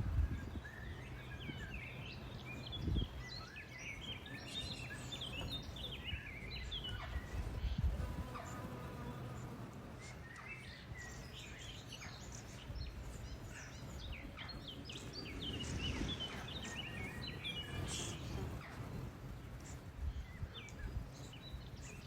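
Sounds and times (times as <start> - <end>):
songbirds chirping and singing: 0.0 - 22.0.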